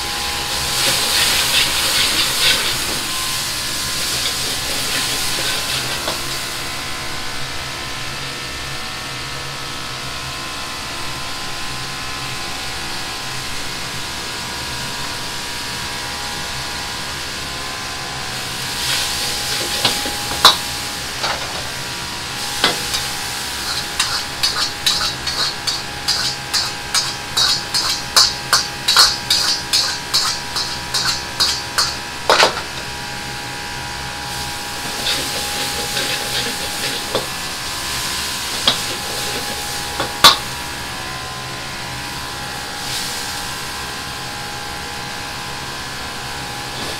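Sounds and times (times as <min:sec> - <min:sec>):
stir-fry sizzling in a wok: 0:00.0 - 0:46.9
wok burner roaring: 0:00.0 - 0:46.9.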